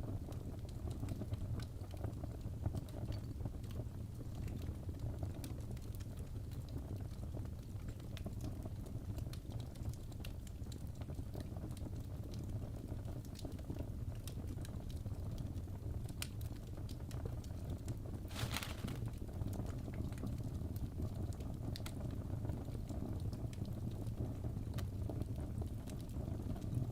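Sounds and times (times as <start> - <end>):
low rumble of flames: 0.0 - 26.9
wood fire crackling and popping: 0.0 - 26.9.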